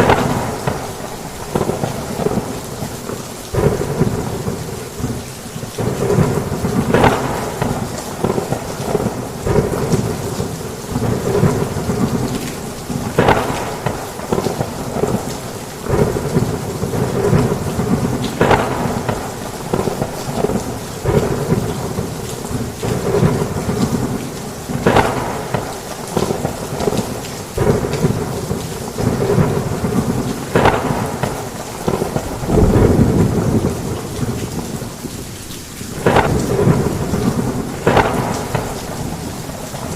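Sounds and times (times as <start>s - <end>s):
thunder rumbling: 0.0s - 35.3s, 35.9s - 39.9s
heavy rain on a roof: 0.0s - 39.9s.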